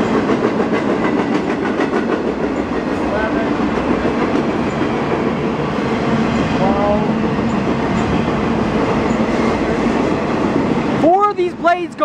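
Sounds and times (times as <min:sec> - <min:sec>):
train wheels running on rails: 0:00.0 - 0:12.0.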